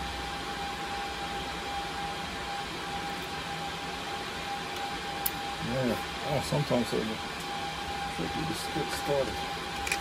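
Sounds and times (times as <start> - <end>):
cooling fans whirring: 0.0 - 10.0
steady whine: 0.0 - 10.0.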